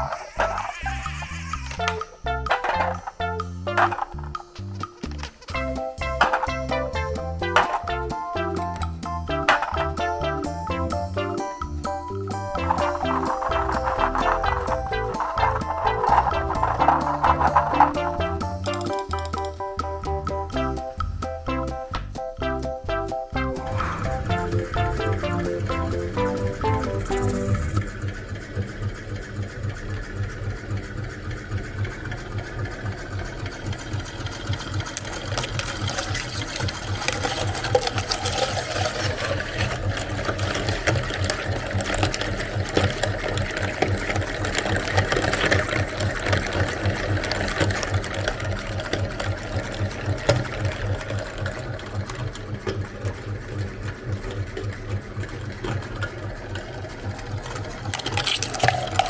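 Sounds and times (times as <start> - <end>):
meat grinder motor humming: 0.0 - 20.5, 23.6 - 59.0
eggs crackling: 0.0 - 21.8, 23.6 - 27.8, 33.7 - 59.0.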